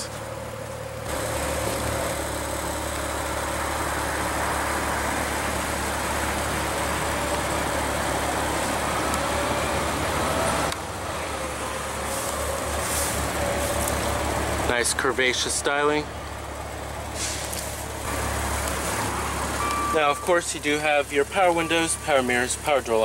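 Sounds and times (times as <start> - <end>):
car engine idling: 0.0 - 23.0
traffic noise: 0.0 - 23.0.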